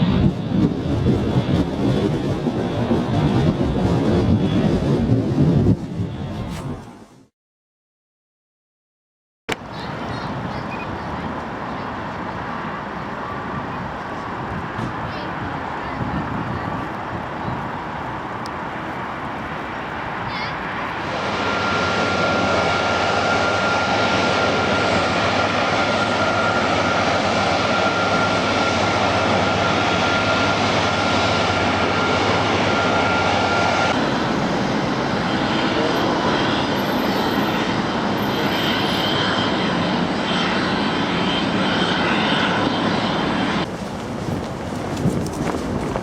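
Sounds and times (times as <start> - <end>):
jet engines running: 0.0 - 6.8, 9.5 - 46.0.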